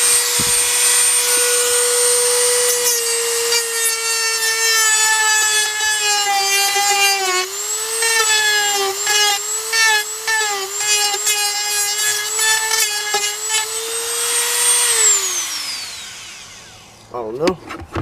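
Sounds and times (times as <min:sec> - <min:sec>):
high-speed power tool whining: 0:00.0 - 0:17.1.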